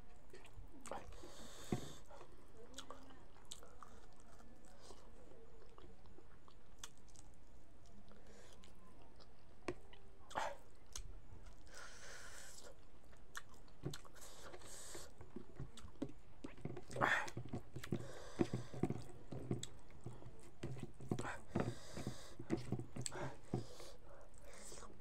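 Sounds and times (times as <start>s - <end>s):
person chewing: 0.3s - 25.0s.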